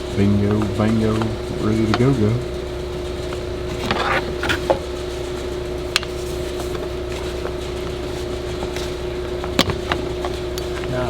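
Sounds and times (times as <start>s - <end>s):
steady hum with constant tone: 0.0s - 11.0s.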